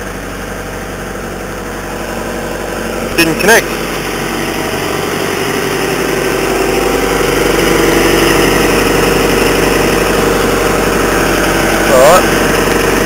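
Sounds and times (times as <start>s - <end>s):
stump grinder engine idling: 0.0s - 13.0s.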